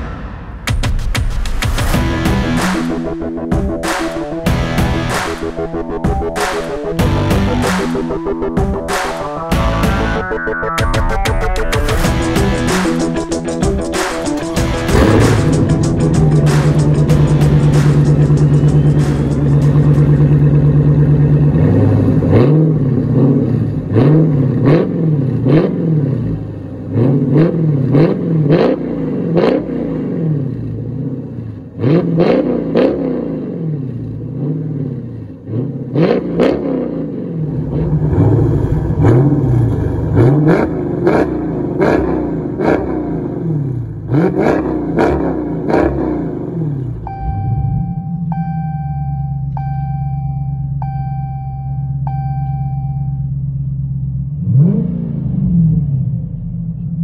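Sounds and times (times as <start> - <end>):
car engine revving: 1.7 - 10.2, 11.6 - 57.0.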